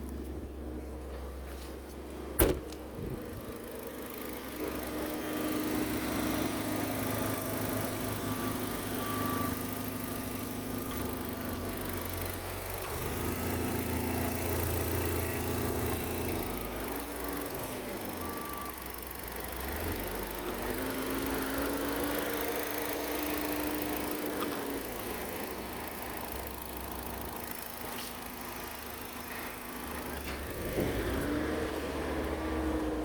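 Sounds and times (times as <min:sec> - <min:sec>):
car engine idling: 0:02.0 - 0:30.9.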